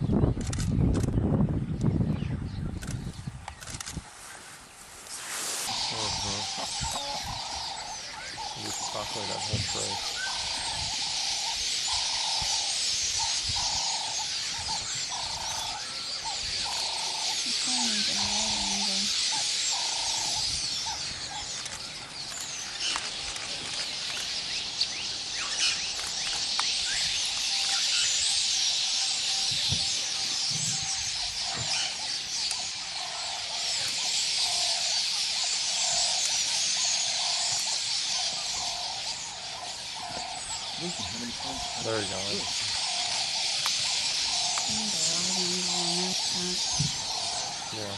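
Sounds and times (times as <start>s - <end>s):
birds chirping: 0.0s - 47.9s
dense high-pitched hiss: 3.6s - 47.9s
lower repeating bird call: 5.2s - 21.5s, 25.1s - 47.9s.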